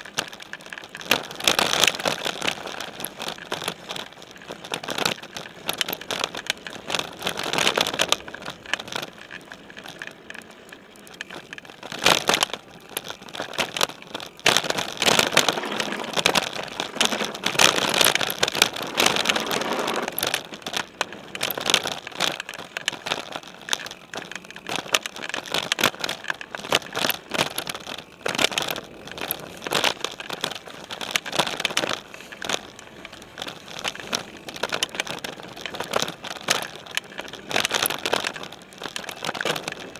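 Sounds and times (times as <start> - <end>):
bike tyres on leaves and dirt: 0.0 - 39.9.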